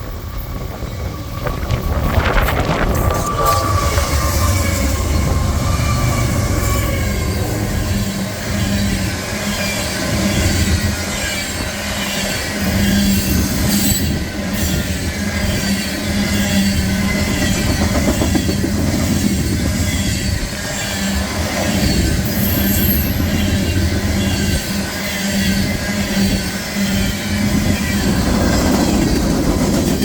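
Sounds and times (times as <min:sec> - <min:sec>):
freight train rumble and clatter: 0:00.0 - 0:30.0.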